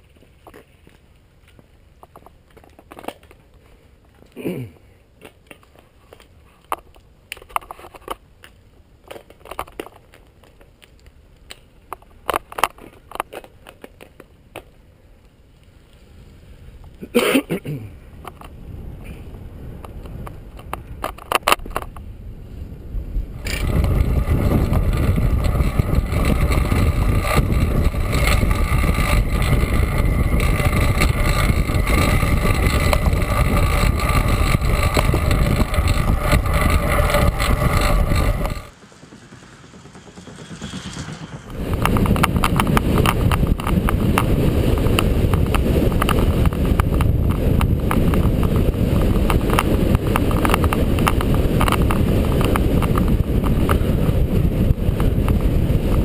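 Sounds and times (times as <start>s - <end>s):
bicycle clicks: 0.0s - 4.4s, 5.2s - 16.1s, 18.1s - 22.2s, 23.3s - 38.8s, 41.4s - 56.0s
wind and tyre rush: 0.0s - 56.0s.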